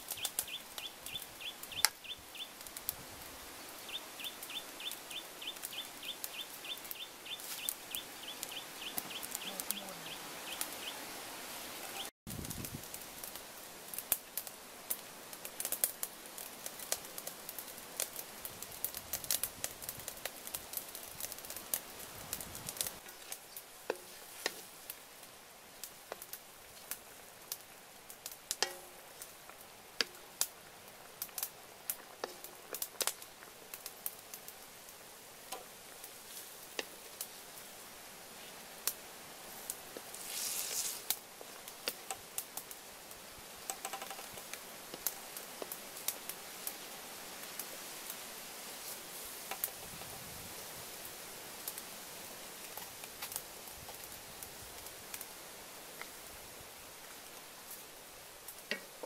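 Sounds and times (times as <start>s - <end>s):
boiling water hissing and popping: 0.0s - 59.0s.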